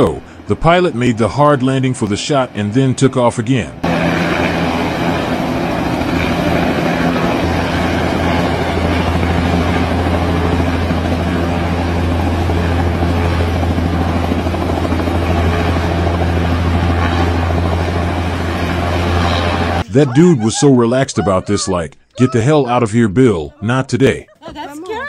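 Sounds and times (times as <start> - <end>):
helicopter rushing noise: 0.0 - 24.3
helicopter rotor throbbing: 0.0 - 25.0.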